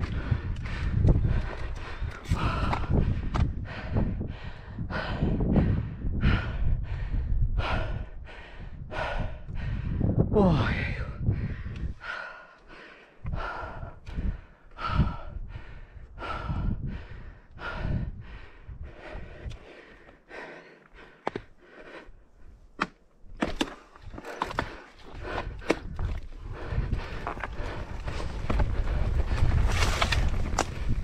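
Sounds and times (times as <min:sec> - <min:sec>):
person breathing hard: 0:00.0 - 0:10.2, 0:10.9 - 0:22.6, 0:23.9 - 0:31.0.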